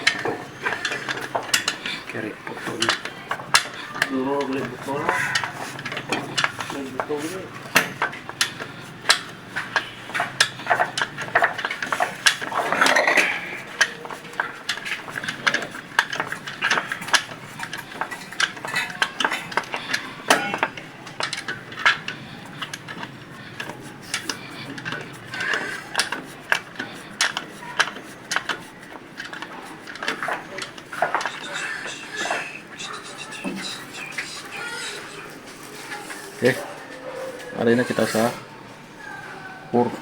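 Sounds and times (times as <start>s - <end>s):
metal tools clinking on engine: 0.0s - 32.6s.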